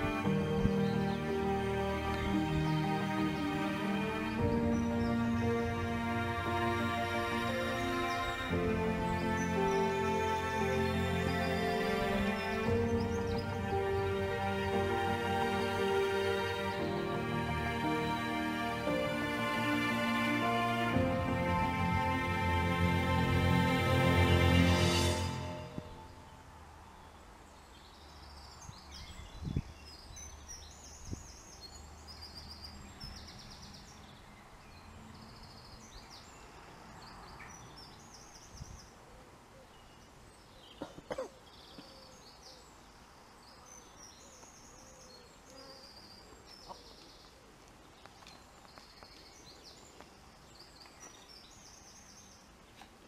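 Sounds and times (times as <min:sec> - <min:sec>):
faint background noise: 0:00.0 - 0:53.0
songbirds chirping and trilling: 0:00.0 - 0:53.0.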